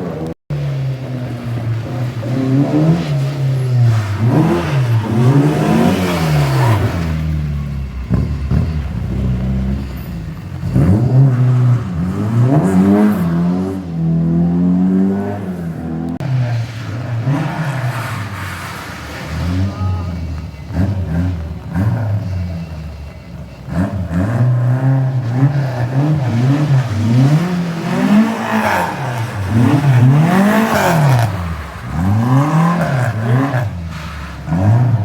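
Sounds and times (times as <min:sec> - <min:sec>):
car engine revving hard: 0:00.0 - 0:35.0.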